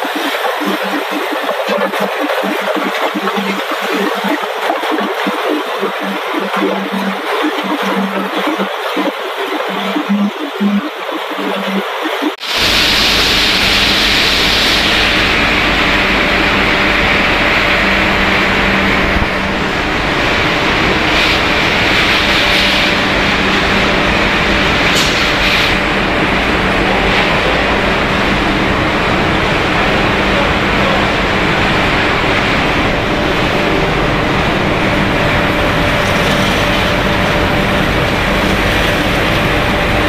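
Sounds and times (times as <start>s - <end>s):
factory machinery running: 0.0s - 40.0s.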